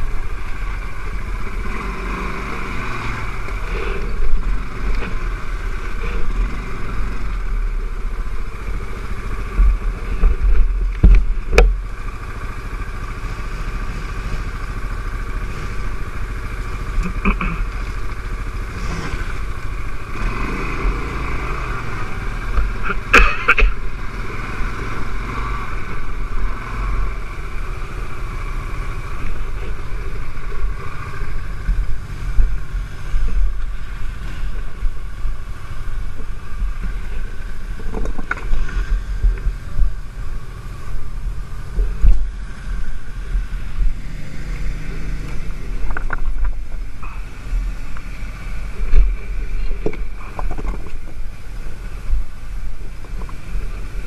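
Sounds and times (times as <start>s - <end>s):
atv engine rumbling: 0.0s - 54.0s.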